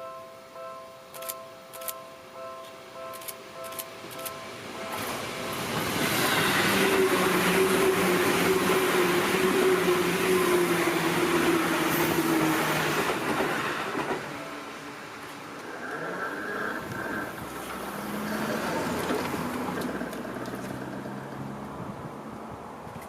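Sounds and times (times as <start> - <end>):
electric train passing: 0.0 - 23.0
train rail noise: 0.0 - 23.0.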